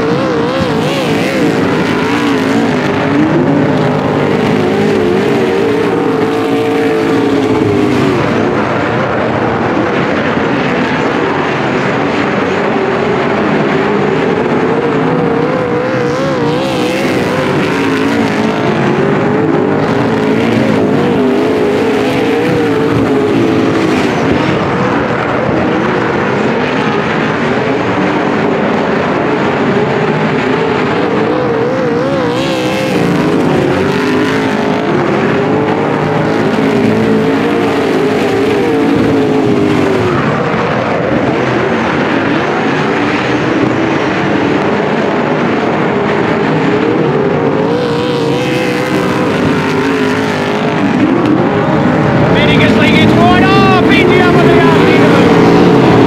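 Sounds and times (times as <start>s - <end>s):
race car engines racing: 0.0s - 56.0s.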